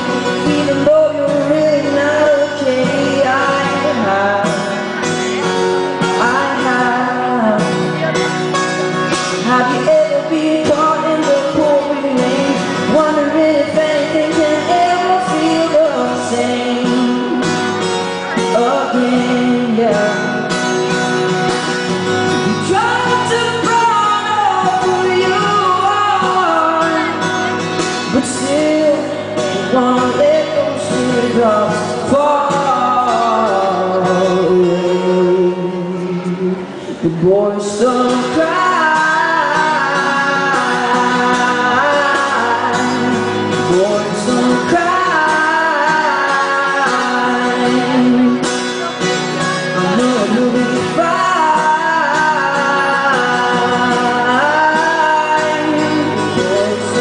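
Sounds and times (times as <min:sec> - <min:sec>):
acoustic guitar: 0:00.0 - 0:57.0
man singing pop song: 0:00.0 - 0:57.0.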